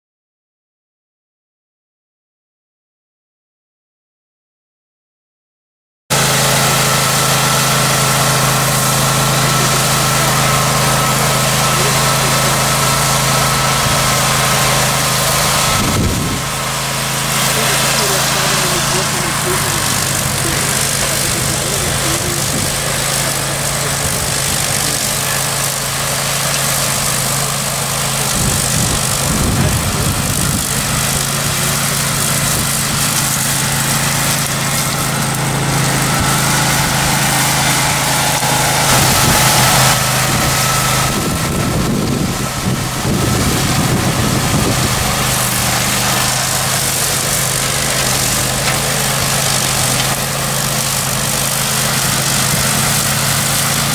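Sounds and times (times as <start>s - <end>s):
ride-on mower engine droning: 6.1s - 53.9s.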